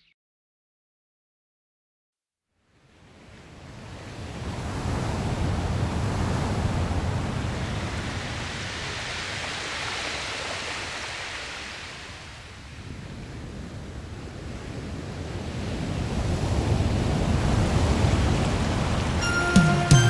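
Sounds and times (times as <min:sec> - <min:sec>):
ocean waves washing on shore: 0:03.2 - 0:20.0.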